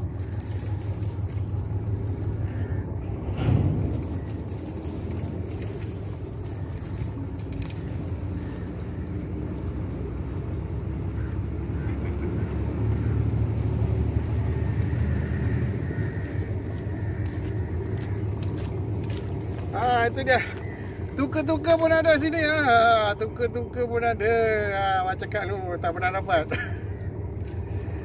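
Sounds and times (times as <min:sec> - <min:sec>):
insects buzzing: 0:00.0 - 0:23.1
low steady rumble: 0:00.0 - 0:28.0.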